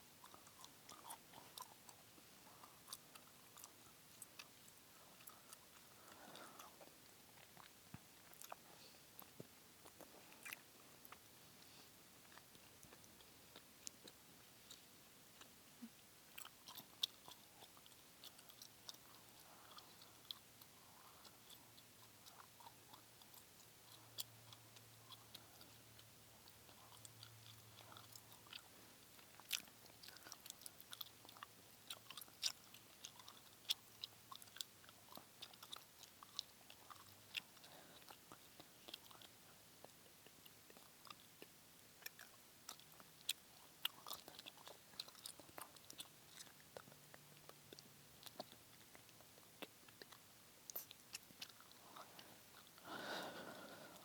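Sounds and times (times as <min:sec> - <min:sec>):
gum chewing mouth sounds: 0:00.0 - 0:54.0.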